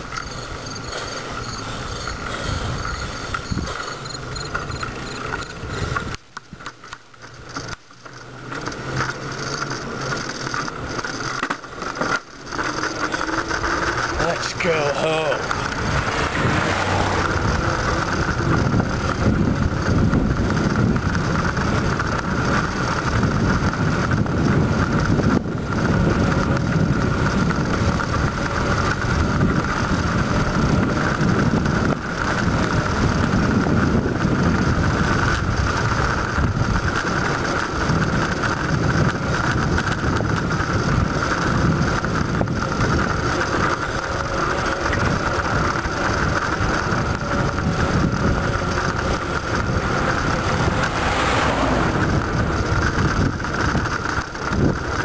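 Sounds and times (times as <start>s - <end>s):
wind buffeting microphone: 0.0s - 6.6s, 13.2s - 55.0s
road noise: 0.0s - 55.0s.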